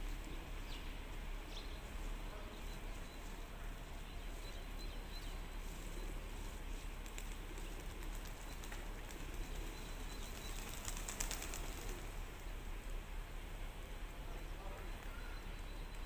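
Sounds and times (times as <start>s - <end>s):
background hiss: 0.0s - 16.0s
birds: 0.0s - 16.0s.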